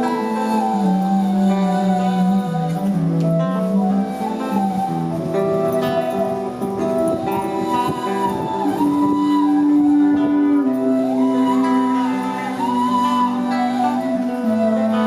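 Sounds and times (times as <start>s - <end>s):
held low notes: 0.0s - 15.0s
melody with sliding notes: 0.0s - 15.0s
plucked strings: 0.0s - 15.0s.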